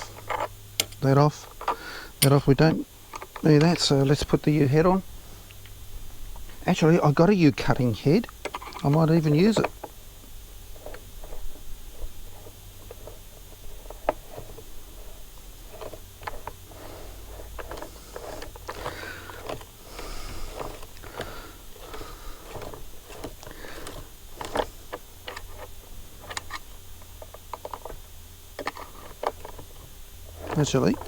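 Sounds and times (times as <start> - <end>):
low steady hum: 0.0 - 31.0
parts clicking and scraping: 0.0 - 31.0.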